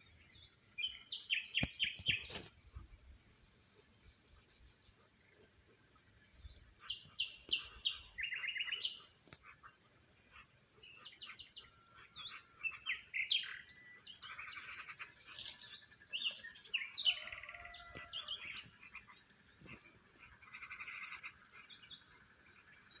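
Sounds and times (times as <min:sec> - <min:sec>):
birds chirping and singing: 0:00.0 - 0:23.0.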